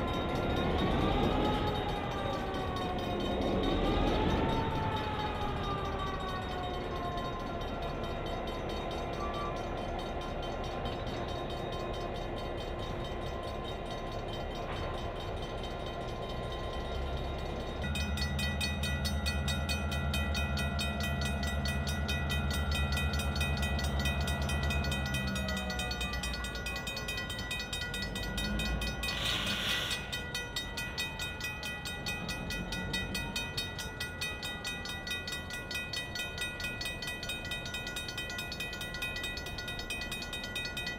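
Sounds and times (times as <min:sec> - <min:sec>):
diesel locomotive engine running: 0:00.0 - 0:40.9
high ringing tones: 0:05.6 - 0:40.9.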